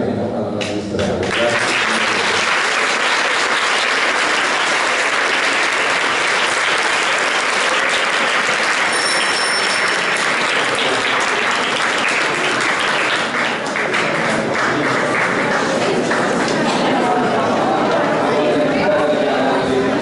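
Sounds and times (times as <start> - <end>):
crowd applauding: 1.2 - 17.4.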